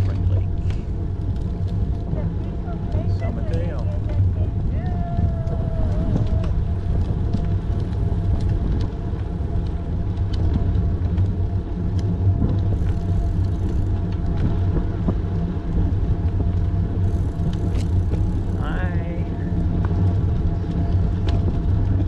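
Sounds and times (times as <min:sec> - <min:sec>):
bicycle tyre noise: 0:00.0 - 0:22.0
wind rumble: 0:00.0 - 0:22.0.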